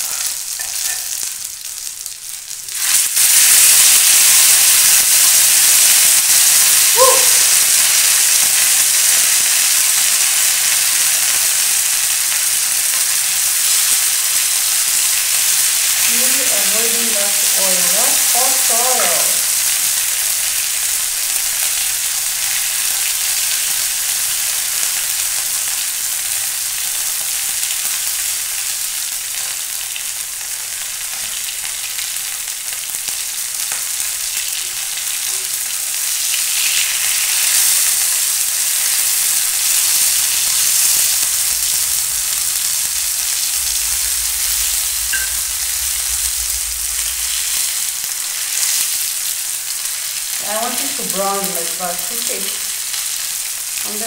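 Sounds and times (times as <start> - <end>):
potatoes sizzling in hot oil: 0.0 - 54.0.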